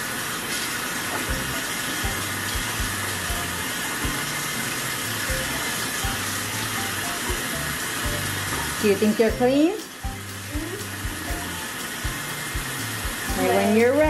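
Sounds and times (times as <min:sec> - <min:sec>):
faucet water running into sink: 0:00.0 - 0:14.0.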